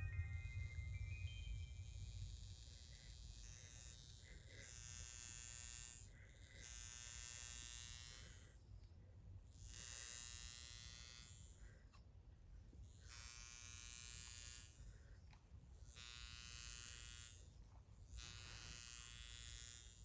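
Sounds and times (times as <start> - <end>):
electrical wand buzzing: 0.0 - 8.7, 9.4 - 11.9, 12.8 - 20.0.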